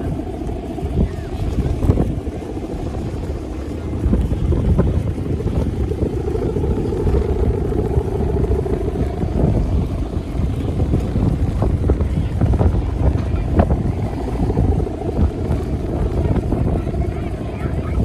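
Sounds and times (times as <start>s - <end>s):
steady hum: 0.0s - 18.0s
wind buffeting microphone: 0.0s - 18.0s.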